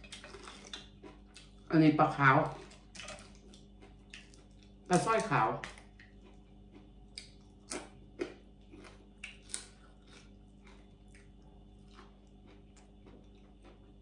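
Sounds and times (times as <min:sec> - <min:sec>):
crunching and chewing fried fish: 0:00.0 - 0:14.0.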